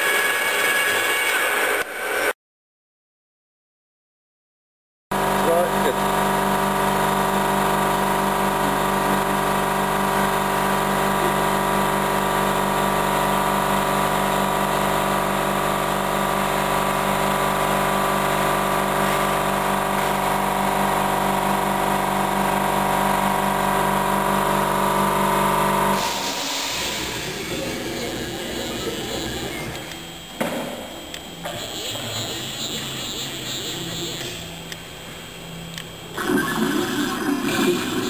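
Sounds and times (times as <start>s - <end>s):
milling machine hum: 5.2s - 38.0s.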